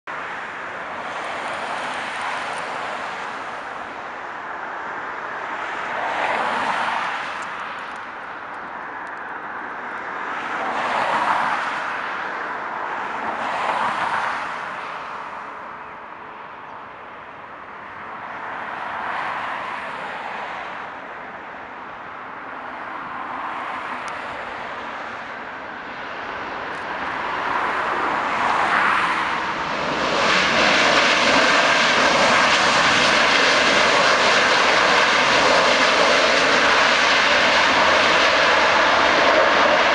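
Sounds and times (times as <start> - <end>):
road traffic passing: 0.0 - 39.9
airliner jet noise: 0.2 - 16.5, 22.4 - 39.9.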